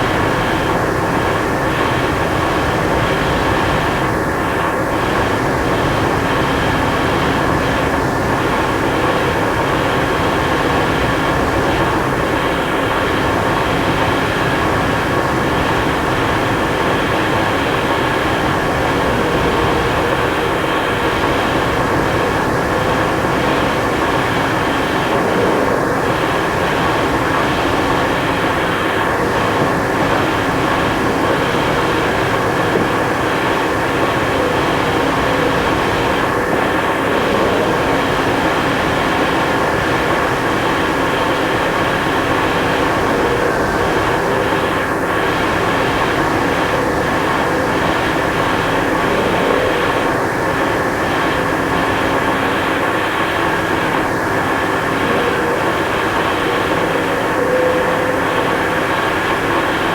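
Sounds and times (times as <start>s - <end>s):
noise music drone: 0.0s - 59.9s.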